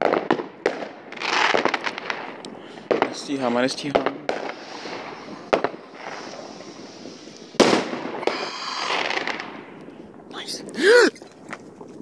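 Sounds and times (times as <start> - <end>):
fireworks bangs: 0.0 - 9.8.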